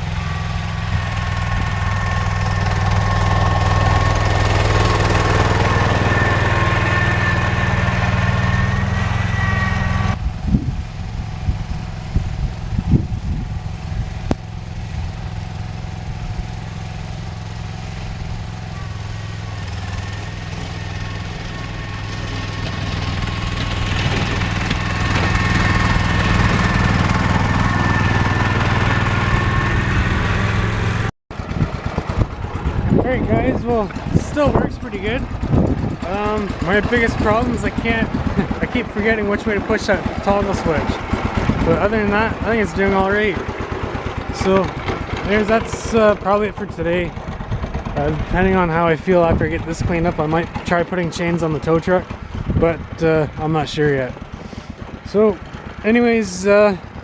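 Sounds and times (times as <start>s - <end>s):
garden tractor engine running: 0.0s - 57.0s.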